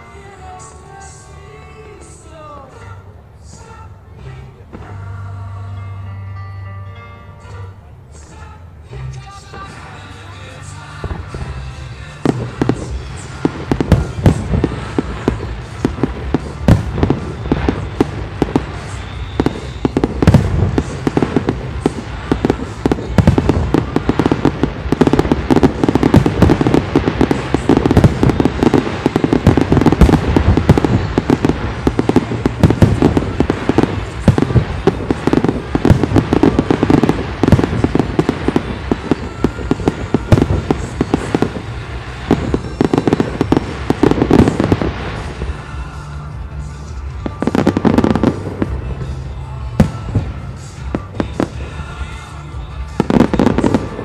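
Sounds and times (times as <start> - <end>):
fireworks bangs and booming bursts: 3.6 - 5.4, 9.3 - 54.0.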